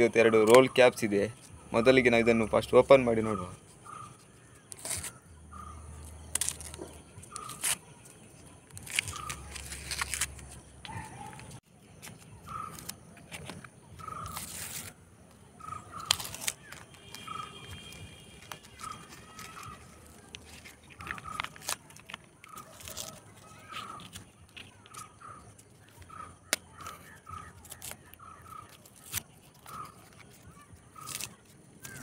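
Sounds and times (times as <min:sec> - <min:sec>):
bird calling: 0:00.0 - 0:32.0
paper wrapping crinkling and tearing: 0:04.0 - 0:05.2, 0:05.9 - 0:32.0.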